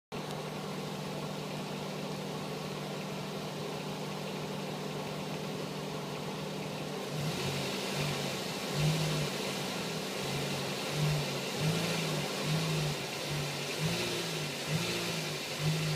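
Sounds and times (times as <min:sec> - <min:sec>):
car engine running: 0:00.1 - 0:15.9.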